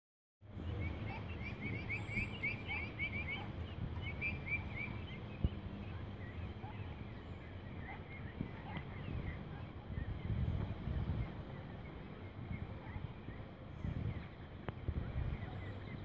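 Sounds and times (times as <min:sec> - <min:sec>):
ducklings peeping: 0:00.5 - 0:16.0
low steady rumble: 0:00.5 - 0:16.0.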